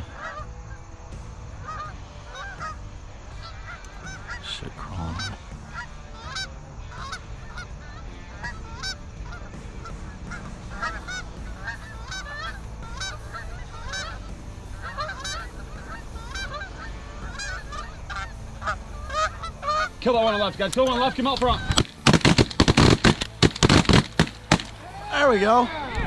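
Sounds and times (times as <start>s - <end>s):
geese honking and clucking: 0.0s - 0.8s, 1.6s - 26.0s.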